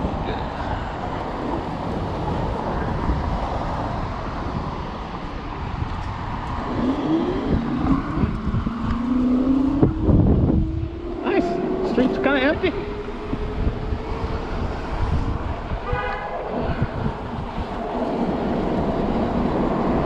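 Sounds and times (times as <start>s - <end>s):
road traffic: 0.0s - 20.0s
wind buffeting microphone: 0.0s - 20.0s.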